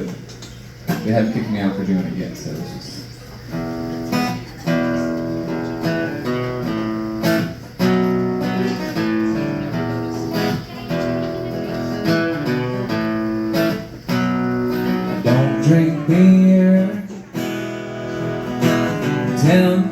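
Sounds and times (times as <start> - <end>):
acoustic guitar strumming chords: 3.4 - 19.9.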